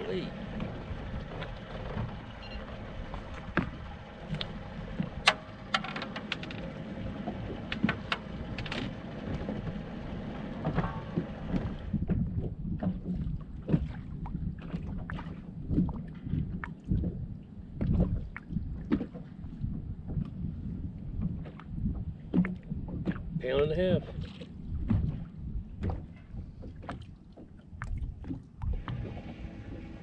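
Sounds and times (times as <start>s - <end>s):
water lapping at boat: 0.0s - 30.0s
wind rumble on microphone: 0.0s - 30.0s.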